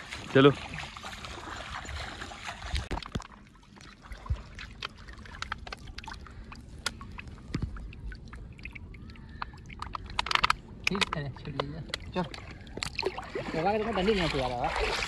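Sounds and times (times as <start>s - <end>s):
people wading through water: 0.0s - 15.0s
river water splashing and trickling: 0.0s - 15.0s.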